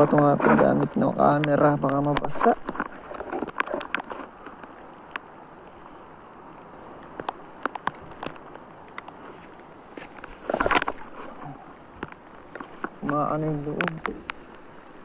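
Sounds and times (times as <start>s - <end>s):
raindrop ticks: 0.0s - 5.8s, 6.6s - 15.0s
rain hissing: 0.2s - 15.0s.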